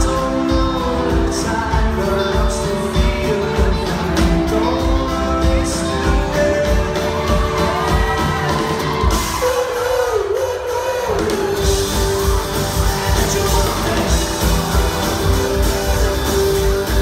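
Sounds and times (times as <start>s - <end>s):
guitars playing: 0.0s - 10.0s, 10.7s - 17.0s.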